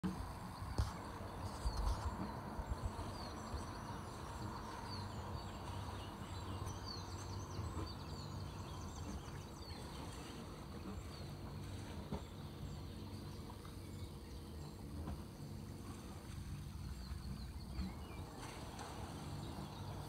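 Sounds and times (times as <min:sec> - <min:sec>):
steady low hum: 0:00.0 - 0:20.0
small birds chirping: 0:00.2 - 0:20.0.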